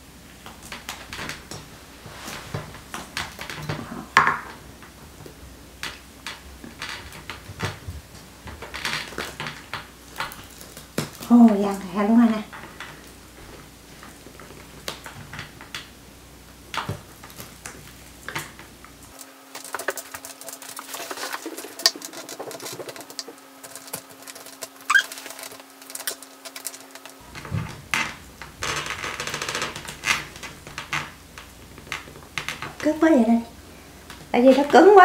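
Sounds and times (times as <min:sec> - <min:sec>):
husk cracking and clicking: 0:00.2 - 0:33.3.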